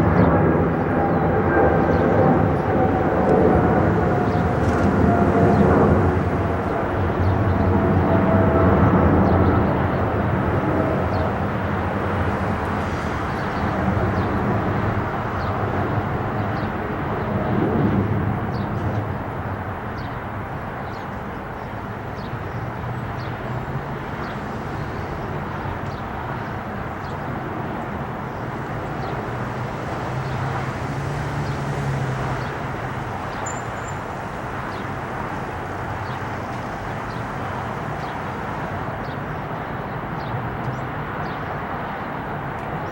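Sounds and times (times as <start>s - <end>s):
jet engines rumbling: 0.0s - 42.9s.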